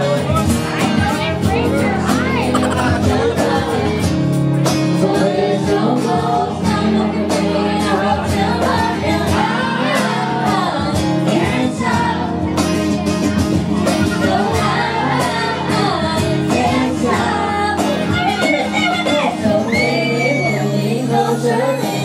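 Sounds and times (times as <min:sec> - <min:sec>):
acoustic guitar strumming: 0:00.0 - 0:22.0
people singing along: 0:00.0 - 0:22.0.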